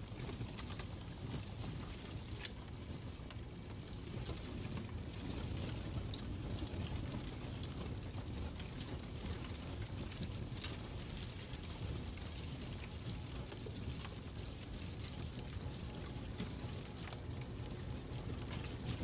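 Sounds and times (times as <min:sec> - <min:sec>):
burning wood rumble: 0:00.0 - 0:19.0
faint fire crackles: 0:00.0 - 0:19.0.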